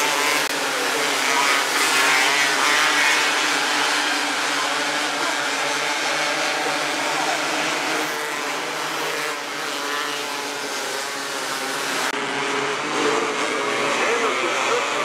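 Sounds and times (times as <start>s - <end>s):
racing car engines droning: 0.0s - 15.0s.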